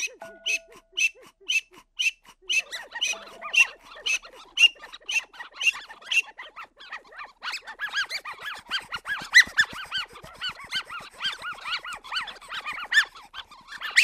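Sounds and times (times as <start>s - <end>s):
bird-like chirps and squawks: 0.0s - 14.0s.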